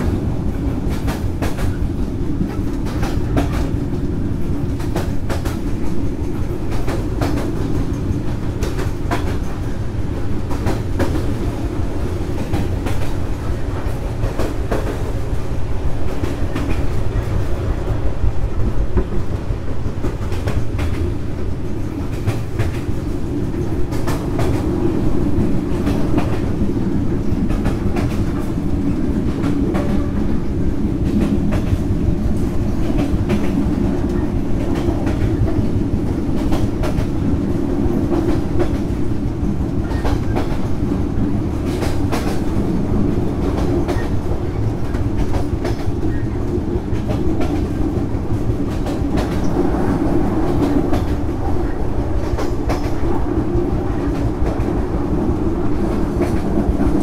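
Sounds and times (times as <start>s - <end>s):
clicks and clacks of rails: 0.0s - 57.0s
train wheels rumbling on rails: 0.0s - 57.0s.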